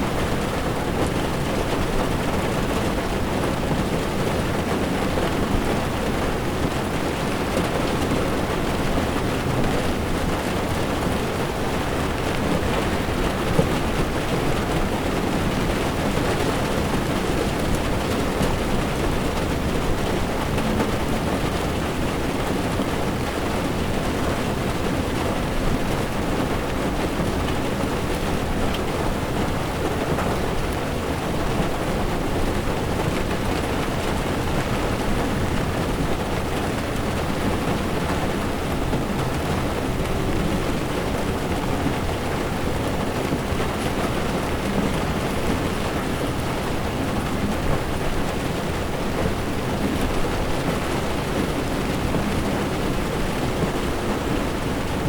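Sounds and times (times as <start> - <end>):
heavy rain on car windshield: 0.0 - 55.0
tyres rumbling on wet road: 0.0 - 55.0.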